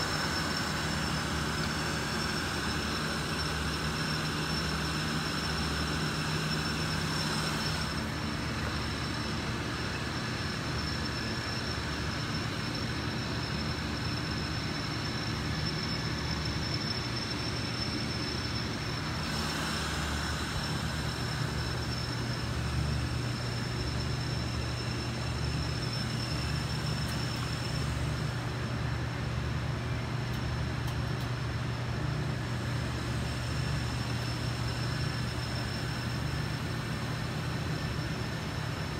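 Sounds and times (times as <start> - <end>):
high-pitched whine: 0.0 - 38.9
mechanical hum and hiss: 0.0 - 38.9.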